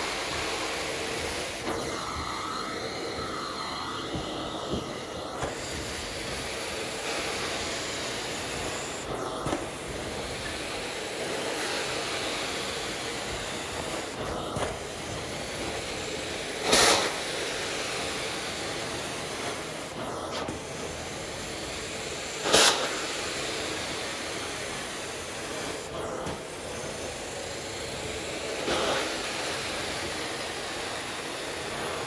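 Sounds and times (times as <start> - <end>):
carpet cleaner suction hiss: 0.0 - 32.0.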